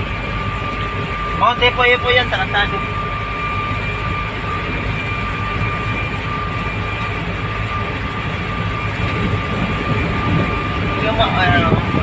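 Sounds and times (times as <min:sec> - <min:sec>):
road noise: 0:00.0 - 0:12.0
thin steady whine: 0:00.0 - 0:12.0
truck engine drone: 0:00.0 - 0:12.0.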